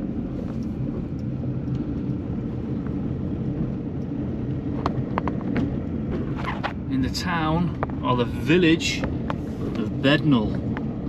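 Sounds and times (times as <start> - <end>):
engine and road noise drone: 0.0 - 11.0.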